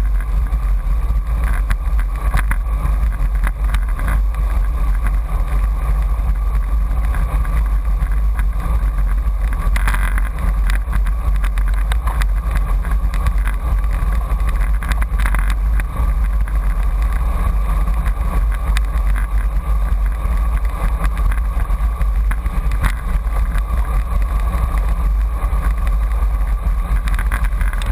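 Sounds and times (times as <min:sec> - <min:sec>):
road noise: 0:00.0 - 0:27.9
wind buffeting microphone: 0:00.0 - 0:27.9.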